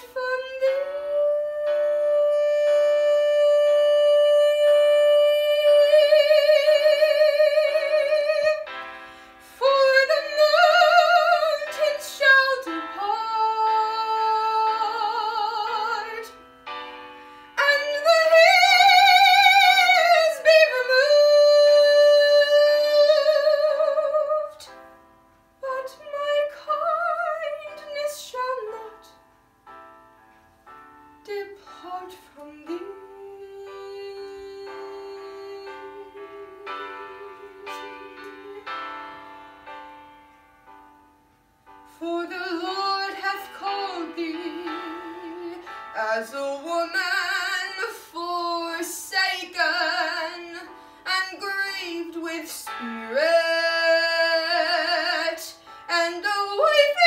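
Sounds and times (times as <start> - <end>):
woman singing opera: 0.0 - 8.7, 9.4 - 16.3, 17.6 - 24.7, 25.6 - 29.1, 31.2 - 38.9, 41.9 - 57.0.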